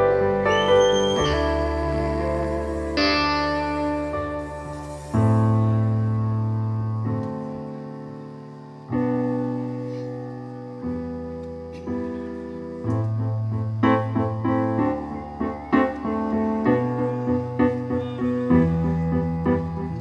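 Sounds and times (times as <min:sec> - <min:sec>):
keyboard chords playing: 0:00.0 - 0:20.0.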